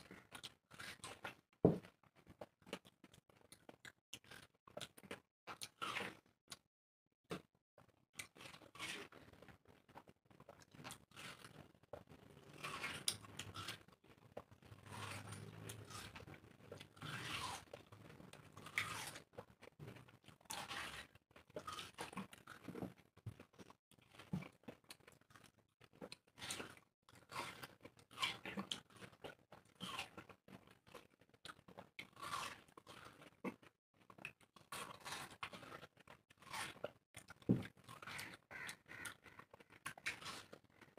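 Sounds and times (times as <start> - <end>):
people biting and chewing watermelon: 0.0 - 6.6, 7.3 - 40.9.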